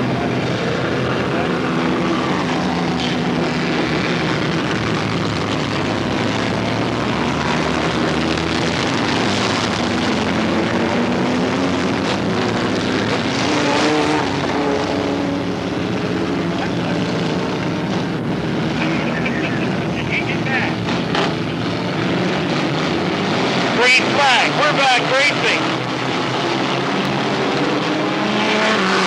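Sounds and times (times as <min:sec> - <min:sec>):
race car engines running: 0:00.0 - 0:29.0.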